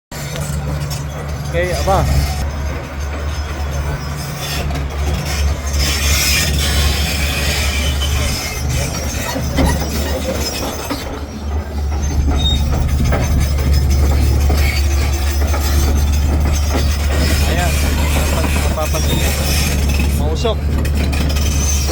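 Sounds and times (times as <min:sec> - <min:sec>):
diesel engine rumbling: 0:00.1 - 0:21.9.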